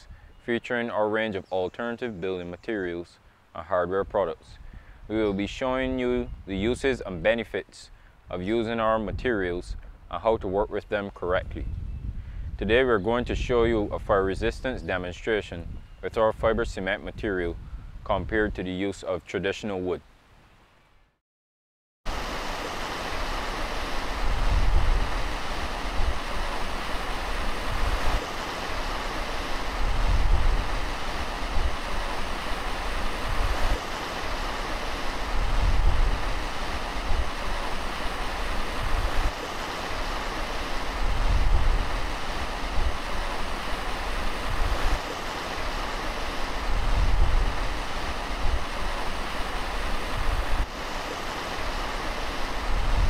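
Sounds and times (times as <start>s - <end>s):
wind gusts on microphone: 4.0s - 18.8s, 22.1s - 53.0s.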